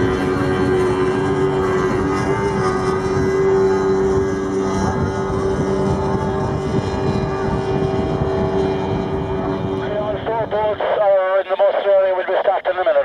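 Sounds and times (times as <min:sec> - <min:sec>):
racing powerboat engines: 0:00.0 - 0:13.0.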